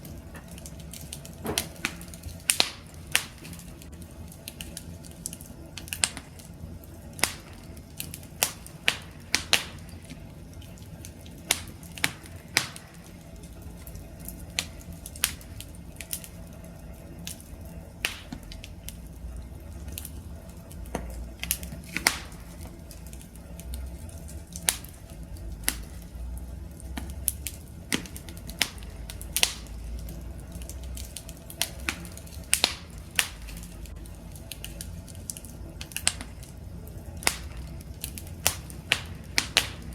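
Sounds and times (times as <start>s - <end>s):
flames rushing: 0.0s - 39.9s
wood fire popping and snapping: 0.0s - 39.9s.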